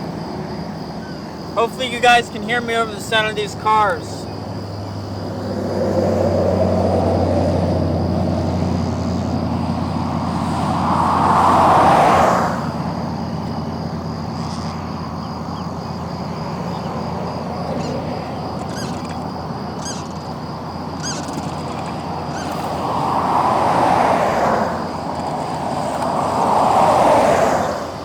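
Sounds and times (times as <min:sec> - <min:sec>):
car passing: 0:00.0 - 0:28.0
steady traffic hum: 0:00.0 - 0:28.0
vehicle approaching: 0:00.0 - 0:28.0.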